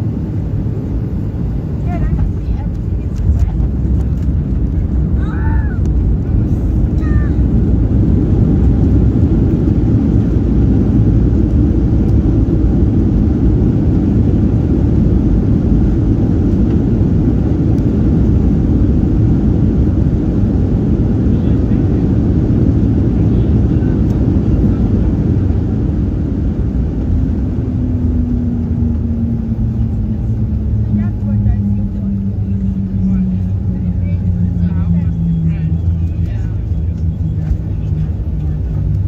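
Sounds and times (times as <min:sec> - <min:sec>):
jet engine rumble in cabin: 0:00.0 - 0:39.0.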